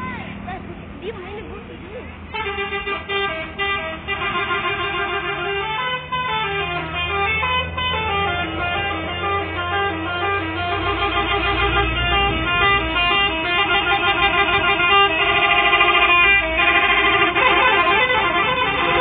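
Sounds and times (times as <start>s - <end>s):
bus engine rumble: 0.0s - 19.0s
air horns tooting melody: 2.3s - 19.0s.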